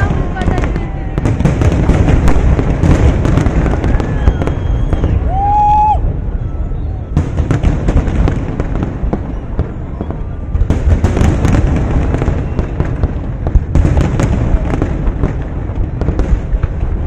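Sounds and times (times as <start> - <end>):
fireworks booming: 0.0 - 17.0
fireworks crackling and popping: 0.0 - 17.0.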